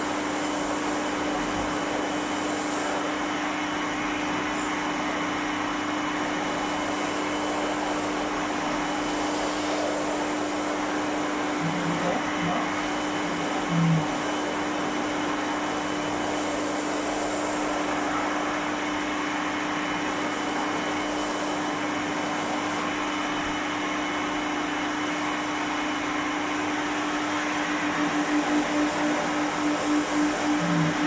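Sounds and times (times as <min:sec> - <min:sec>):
hair dryer blowing: 0:00.0 - 0:31.0.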